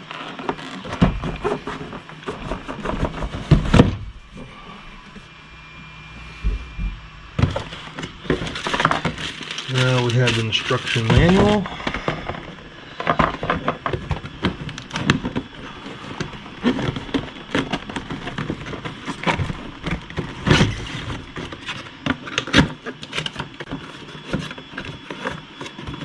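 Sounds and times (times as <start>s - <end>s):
packaging scrapes and knocks: 0.0s - 4.1s, 7.4s - 26.0s.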